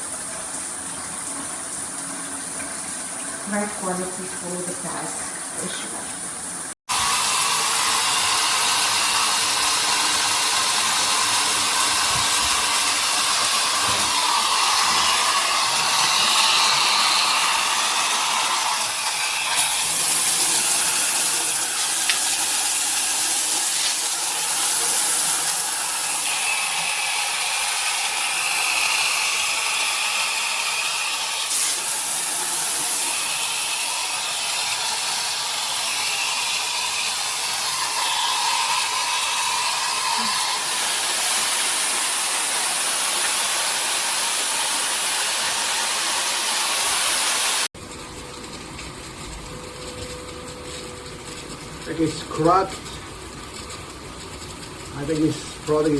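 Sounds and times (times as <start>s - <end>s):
shower head spraying water: 1.2s - 47.7s, 54.9s - 55.9s.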